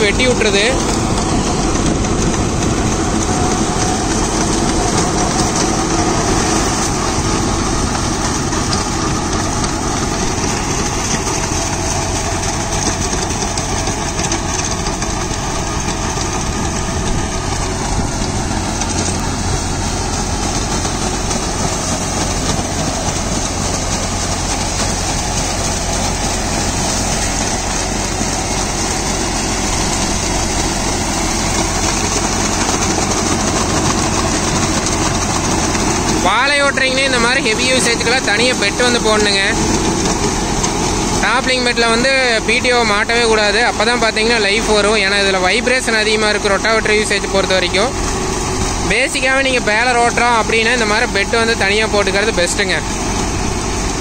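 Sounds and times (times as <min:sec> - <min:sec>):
rotary tiller churning soil: 0:00.0 - 0:54.0
tractor diesel engine running: 0:00.0 - 0:54.0.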